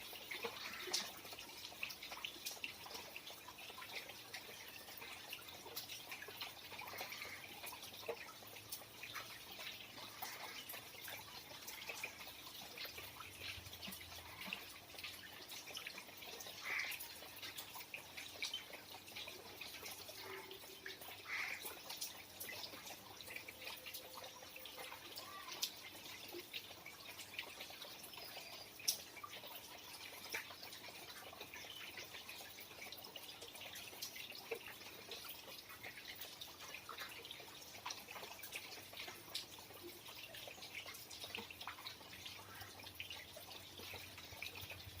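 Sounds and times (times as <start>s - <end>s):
faint falling rain: 0.0s - 45.0s
raindrops ticking: 0.0s - 45.0s.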